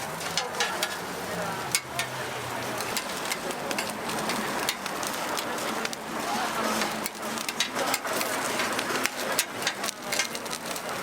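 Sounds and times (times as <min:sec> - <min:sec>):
oil sizzling on hot griddle: 0:00.0 - 0:11.0.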